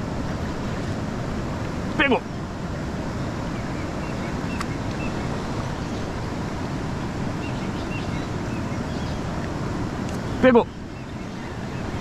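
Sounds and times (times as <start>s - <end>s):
river water rushing through rapids: 0.0s - 12.0s.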